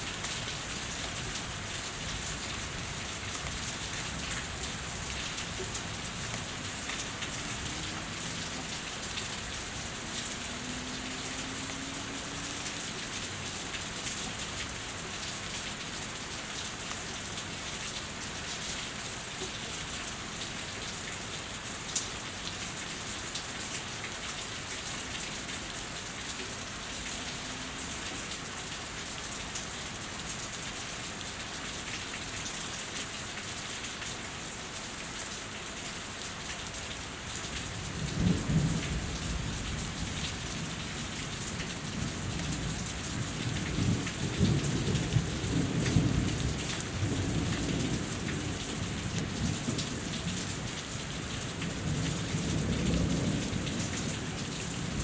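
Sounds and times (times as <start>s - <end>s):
rain falling and dripping: 0.0s - 55.0s.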